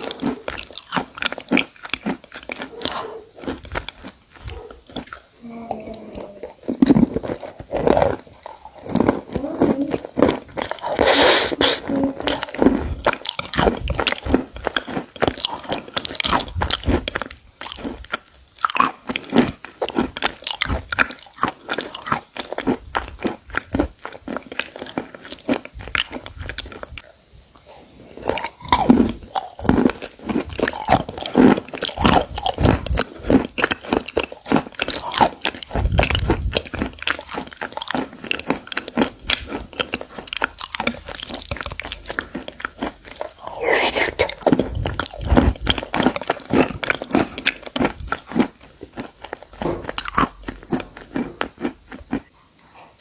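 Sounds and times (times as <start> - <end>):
chewing crunchy stone: 0.0 - 52.9.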